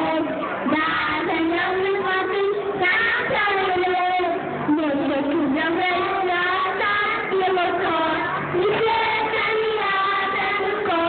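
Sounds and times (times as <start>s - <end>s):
girls singing together: 0.0s - 11.0s.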